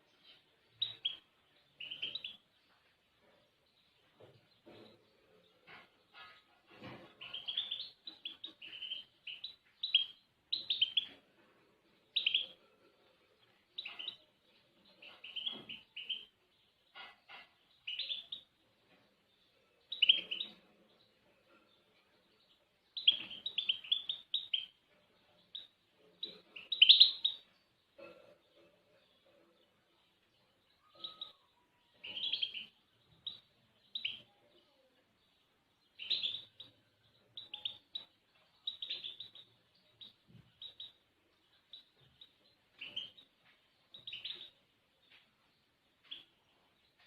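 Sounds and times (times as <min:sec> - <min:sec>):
songbird chirping: 0:00.0 - 0:47.0.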